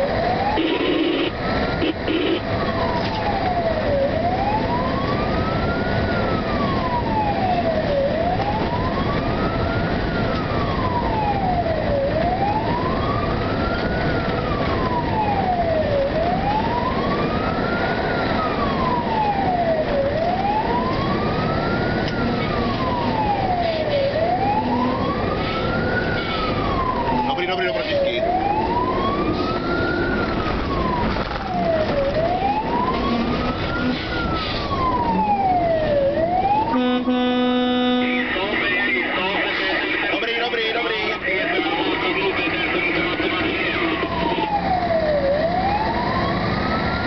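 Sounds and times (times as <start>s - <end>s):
fire engine siren wailing: 0.0s - 47.0s
truck engine and road noise: 0.0s - 47.0s.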